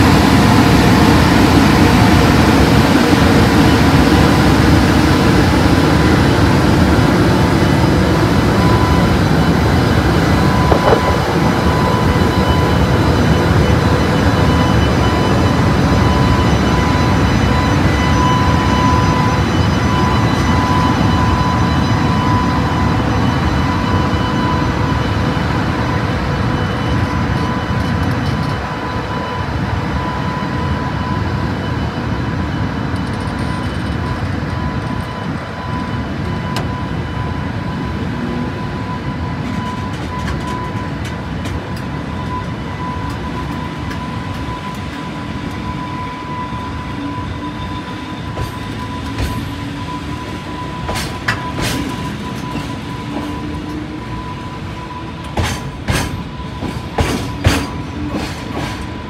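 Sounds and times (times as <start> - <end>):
high whine: 0.0 - 59.0
locomotive cooling blowers roaring: 0.0 - 59.0.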